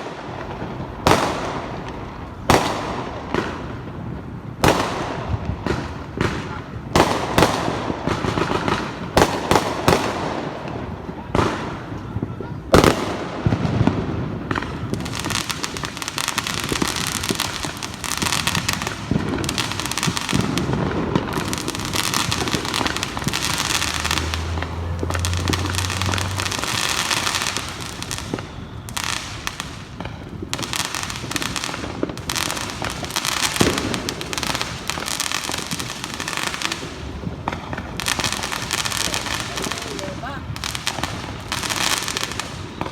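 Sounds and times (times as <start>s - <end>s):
firecrackers crackling: 0.0s - 42.9s
loud firework bangs: 0.0s - 42.9s.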